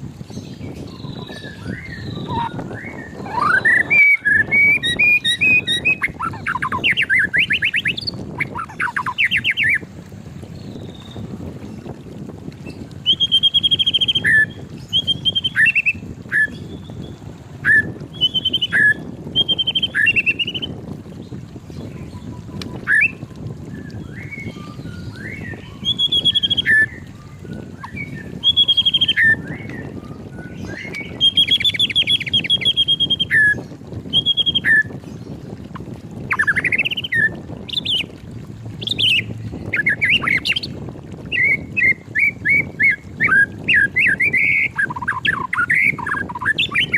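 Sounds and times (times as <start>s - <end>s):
bird singing whistled phrases: 0.8s - 9.8s, 13.0s - 16.9s, 17.6s - 20.7s, 22.2s - 34.9s, 36.3s - 38.1s, 38.8s - 40.7s, 41.3s - 46.9s.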